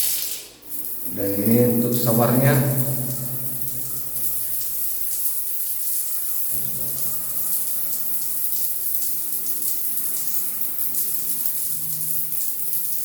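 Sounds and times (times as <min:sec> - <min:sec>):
shower spraying water: 0:00.0 - 0:13.0.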